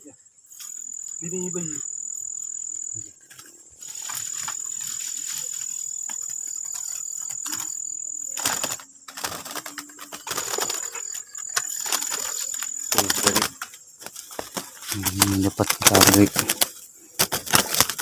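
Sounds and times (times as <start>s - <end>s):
high-pitched cricket trill: 0.0s - 18.0s
pigeon wings flapping: 3.3s - 18.0s.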